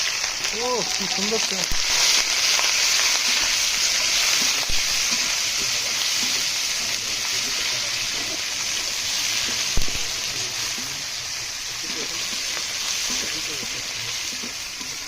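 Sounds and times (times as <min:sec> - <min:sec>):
prawns sizzling in hot oil: 0:00.0 - 0:15.0.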